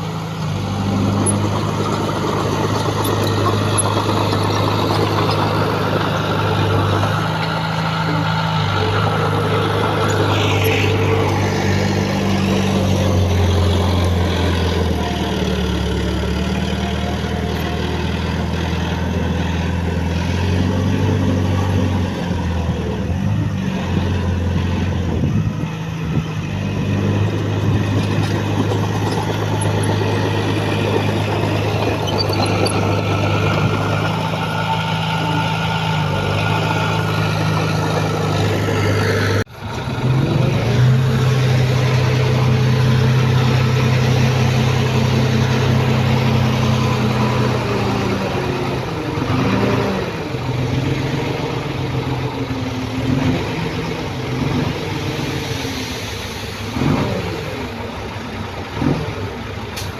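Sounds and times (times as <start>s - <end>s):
heavy diesel machine engine: 0.0s - 59.9s.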